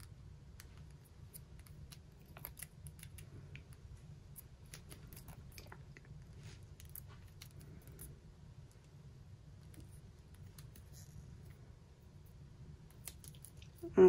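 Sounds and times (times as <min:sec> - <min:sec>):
small clicks and soft rustles: 0:00.0 - 0:13.9
low steady hum: 0:00.0 - 0:14.0.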